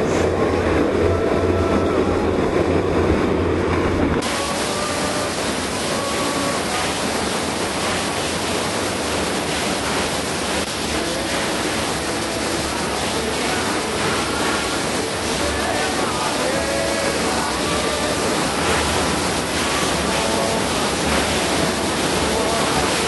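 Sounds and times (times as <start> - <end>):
deep water rumble: 0.0 - 23.0
waterfall rushing: 4.2 - 23.0.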